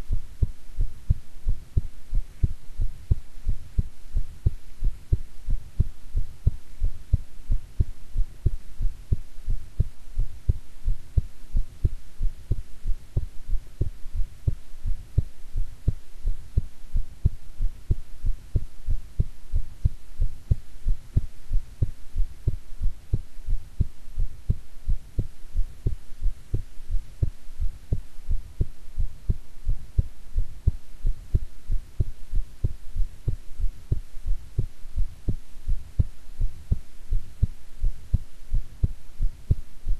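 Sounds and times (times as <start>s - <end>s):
faint hum: 0.0s - 39.9s
heartbeat thumps: 0.0s - 39.9s.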